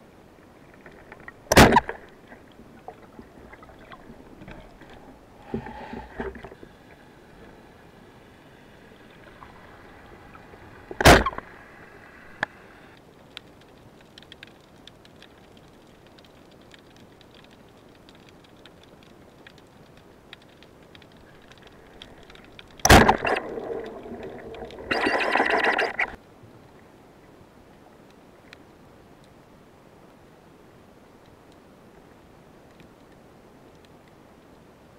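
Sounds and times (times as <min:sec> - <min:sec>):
faint underwater crackling clicks: 0:00.4 - 0:08.0, 0:08.8 - 0:29.4, 0:31.2 - 0:34.6.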